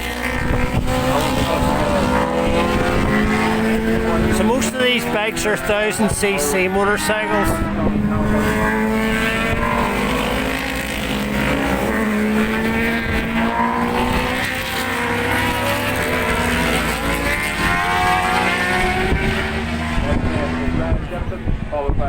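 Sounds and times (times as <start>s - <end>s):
wind buffeting microphone: 0.0s - 16.9s, 17.6s - 22.0s
motorcycle engines running: 0.0s - 22.0s.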